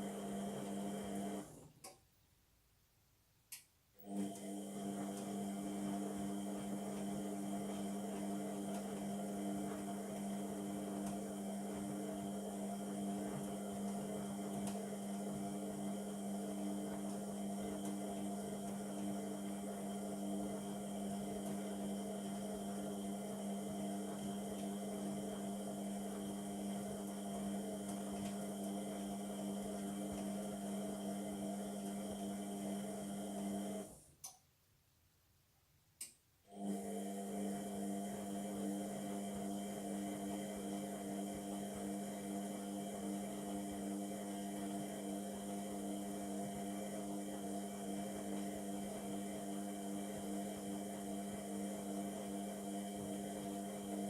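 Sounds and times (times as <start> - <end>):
washing machine humming: 0.0 - 1.9, 4.0 - 34.3, 36.5 - 54.0.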